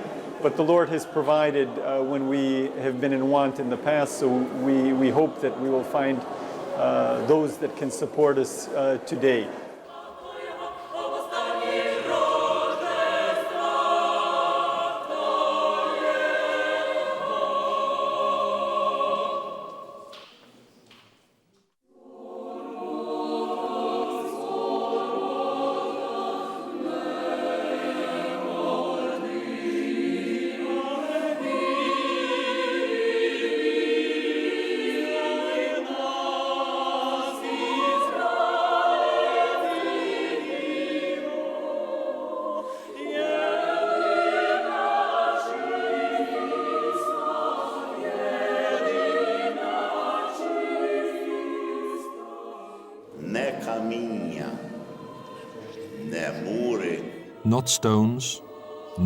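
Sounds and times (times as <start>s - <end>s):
choir singing: 0.0s - 20.3s, 21.9s - 59.0s.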